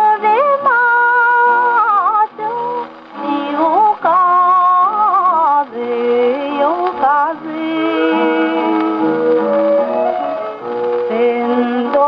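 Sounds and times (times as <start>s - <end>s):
old gramophone orchestra song: 0.0s - 12.0s.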